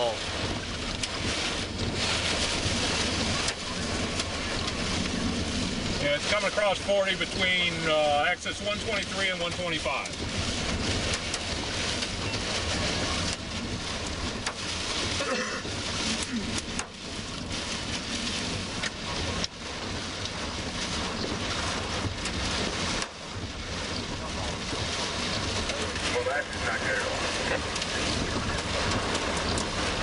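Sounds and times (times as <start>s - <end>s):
heavy rain on car windshield: 0.0s - 30.0s
road noise: 0.0s - 30.0s.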